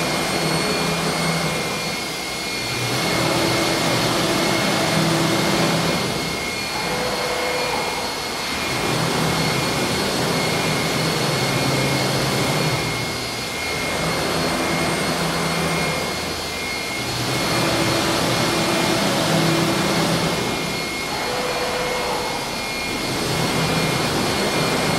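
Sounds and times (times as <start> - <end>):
router spindle whine: 0.0 - 24.9.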